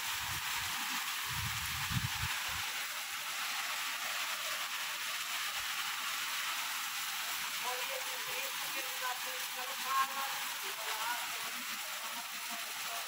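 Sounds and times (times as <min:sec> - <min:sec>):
heavy rain pouring: 0:00.0 - 0:06.2, 0:07.1 - 0:13.0.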